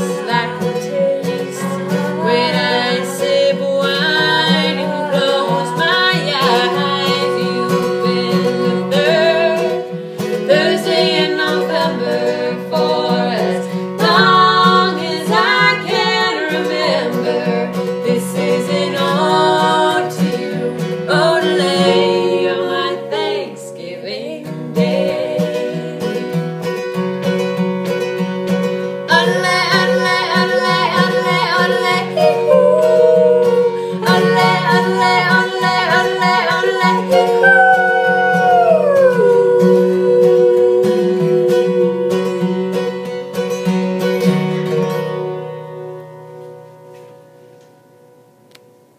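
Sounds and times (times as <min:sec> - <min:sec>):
women singing: 0:00.0 - 0:26.7, 0:29.0 - 0:43.2
acoustic guitar: 0:00.0 - 0:48.9.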